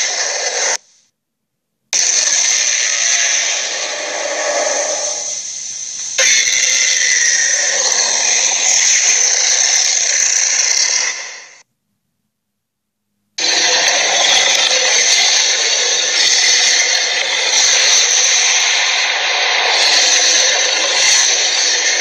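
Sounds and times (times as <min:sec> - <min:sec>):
harsh hissing creature sound: 0:00.0 - 0:00.8, 0:02.0 - 0:11.6, 0:13.4 - 0:22.0.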